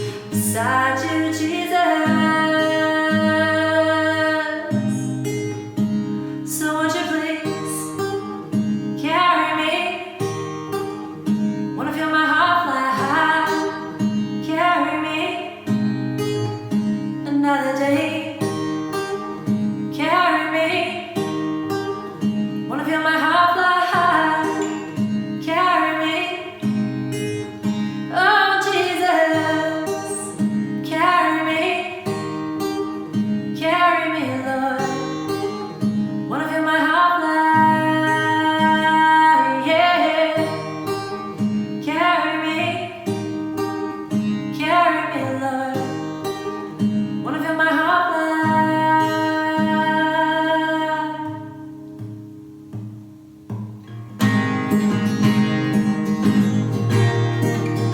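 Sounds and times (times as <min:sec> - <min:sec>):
woman singing: 0:00.0 - 0:05.8, 0:06.4 - 0:51.8
acoustic guitar: 0:00.0 - 0:57.9.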